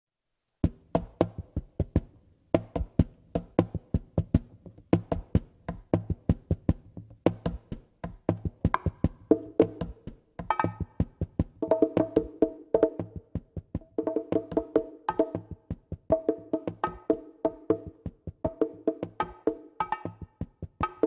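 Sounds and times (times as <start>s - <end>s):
percussion syncopated rhythm: 0.6s - 21.0s.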